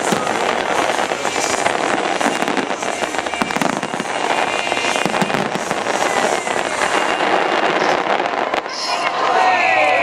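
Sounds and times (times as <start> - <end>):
fireworks popping and banging: 0.0 - 10.0.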